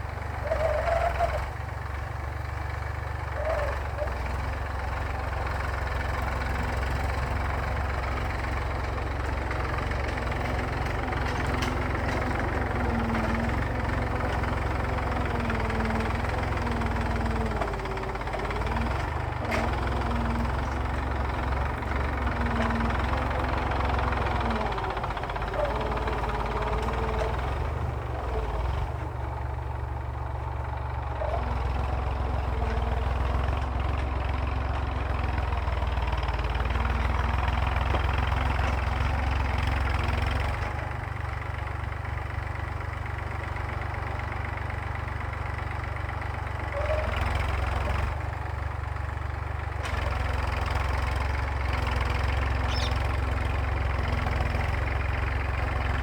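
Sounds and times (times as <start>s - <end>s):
tractor diesel engine rumbling: 0.0s - 56.0s.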